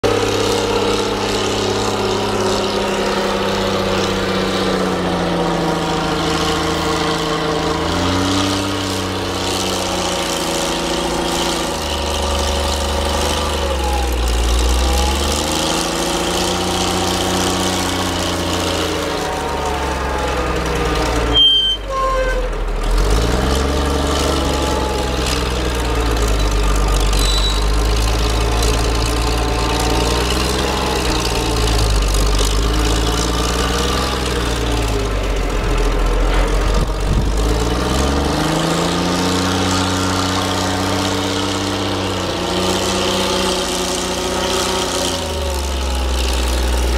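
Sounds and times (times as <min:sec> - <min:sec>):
heavy loader engine revving: 0:00.0 - 0:46.9.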